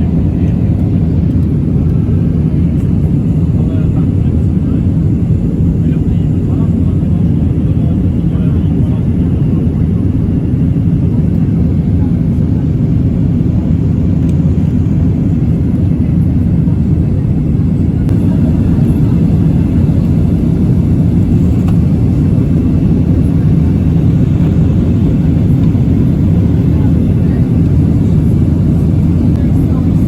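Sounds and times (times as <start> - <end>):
jet engine rumble in cabin: 0.0 - 30.0.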